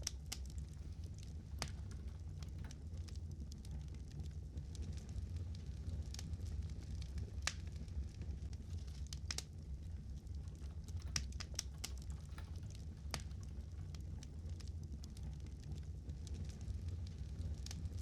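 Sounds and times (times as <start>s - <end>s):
fire crackling and popping: 0.0s - 18.0s
steady low rumble: 0.0s - 18.0s.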